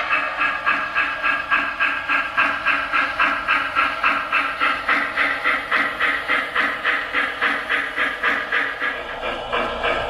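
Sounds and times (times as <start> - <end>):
model locomotive steam chuff: 0.0 - 10.0.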